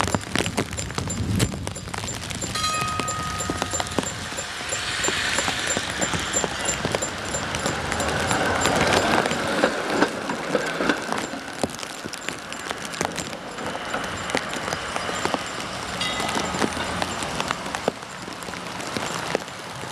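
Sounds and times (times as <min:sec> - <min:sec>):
tram wheels clattering over rails: 0:00.0 - 0:19.5.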